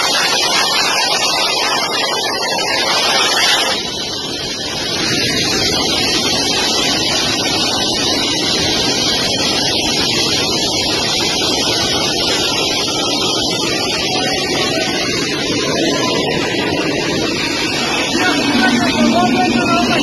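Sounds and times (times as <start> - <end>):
rushing air: 0.0 - 20.0
vehicle engine noise: 0.0 - 20.0.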